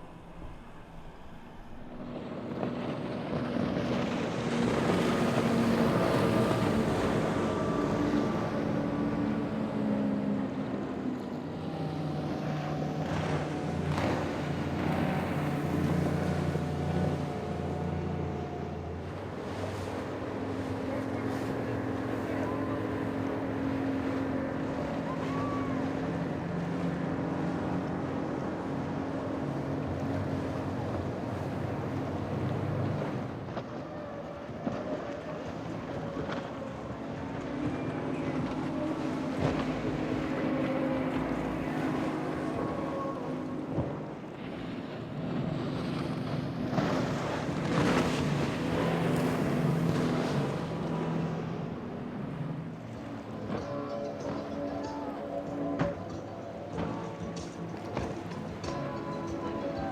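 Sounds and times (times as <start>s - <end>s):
motorboat engines humming: 0.0s - 59.9s
water wash: 0.0s - 59.9s.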